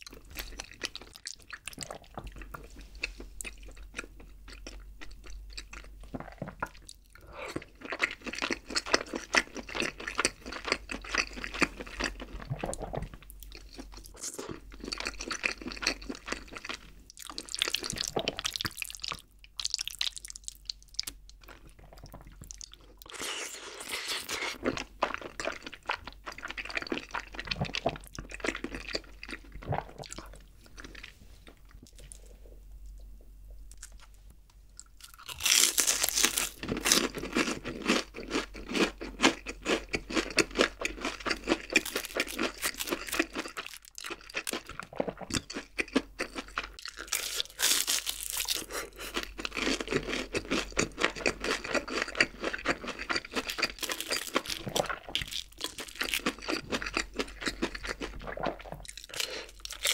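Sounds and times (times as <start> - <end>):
close chewing mouth sounds: 0.0 - 59.9.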